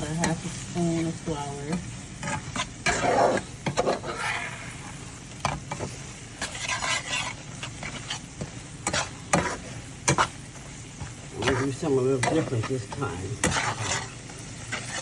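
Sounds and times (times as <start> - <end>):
fat sizzling: 0.0 - 15.0
spoon scraping a pan: 0.0 - 15.0.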